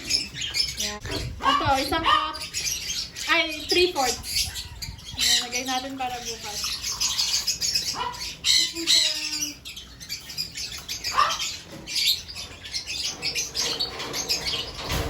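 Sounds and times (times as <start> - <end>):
parrots squawking: 0.0 - 15.0.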